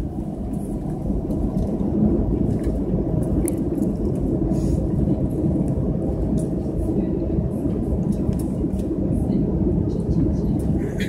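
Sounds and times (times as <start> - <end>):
aircraft engines idling: 0.0 - 11.0
wheels rolling on taxiway: 0.0 - 11.0.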